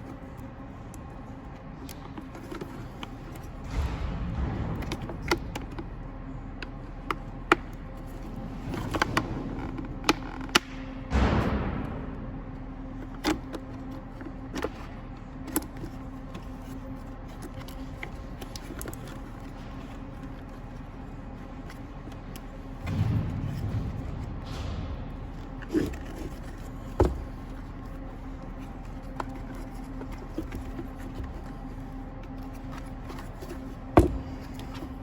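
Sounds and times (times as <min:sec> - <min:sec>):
plastic parts clicking and knocking: 0:00.0 - 0:12.0, 0:12.6 - 0:35.0
steady low hum: 0:00.0 - 0:35.0.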